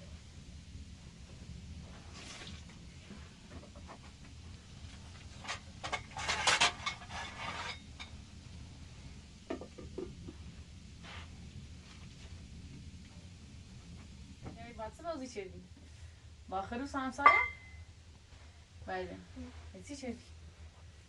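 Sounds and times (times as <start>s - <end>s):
steady low rumble: 0.0s - 5.9s, 8.0s - 21.0s.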